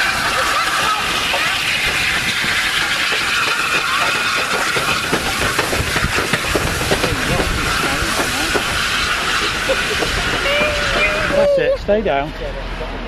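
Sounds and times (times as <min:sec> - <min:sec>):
train wheels clattering on rails: 0:00.0 - 0:11.4
steam hissing: 0:00.0 - 0:13.0.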